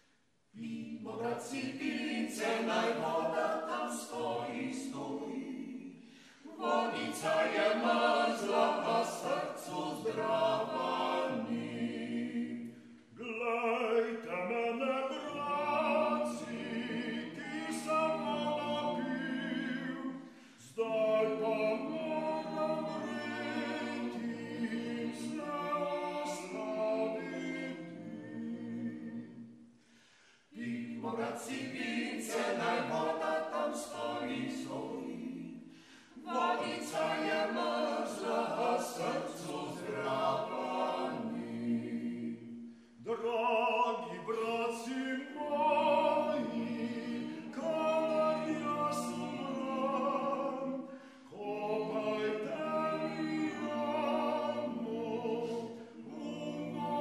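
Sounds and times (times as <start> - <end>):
vocal group singing in harmony: 0.0 - 57.0.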